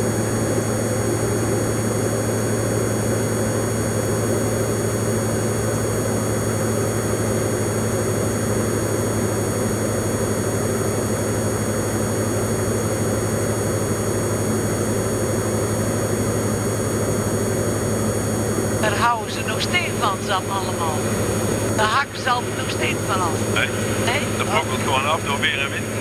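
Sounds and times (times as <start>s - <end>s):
aircraft engine and propeller droning: 0.0s - 26.0s.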